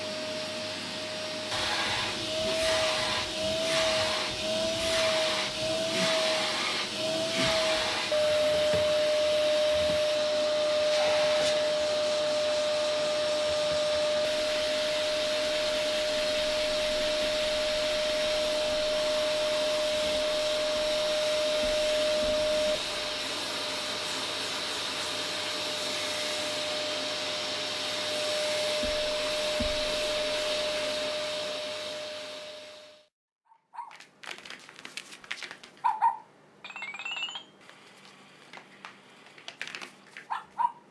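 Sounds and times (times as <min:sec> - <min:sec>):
vacuum cleaner motor whining: 0:00.0 - 0:33.1.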